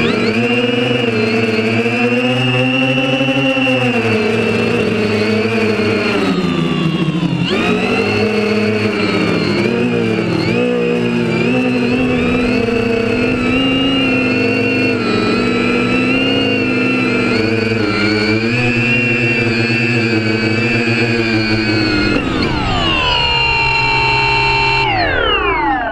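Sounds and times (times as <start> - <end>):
quadcopter motors whining: 0.0 - 25.9.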